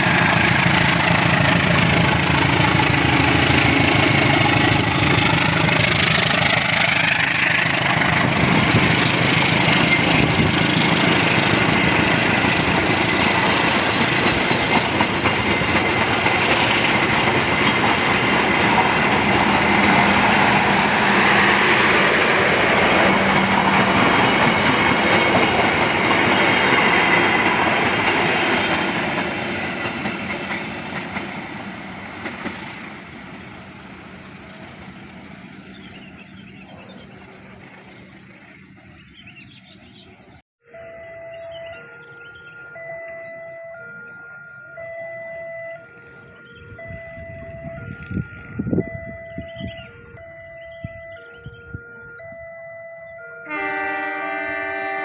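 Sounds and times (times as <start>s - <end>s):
train rolling on rails: 0.0s - 55.0s.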